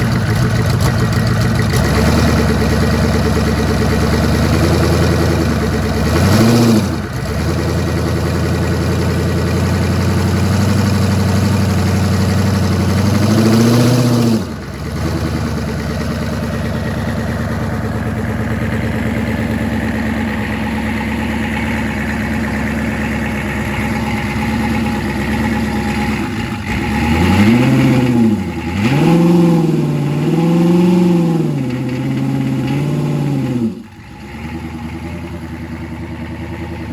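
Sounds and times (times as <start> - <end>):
engine idling and revving: 0.0 - 36.9.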